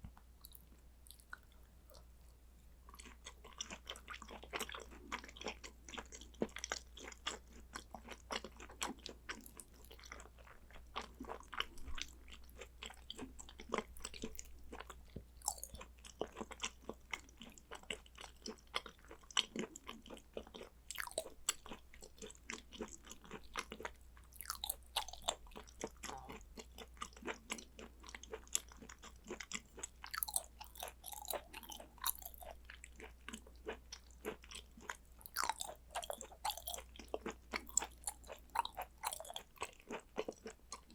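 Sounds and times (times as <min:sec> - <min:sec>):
wet chewing: 0:02.9 - 0:40.9.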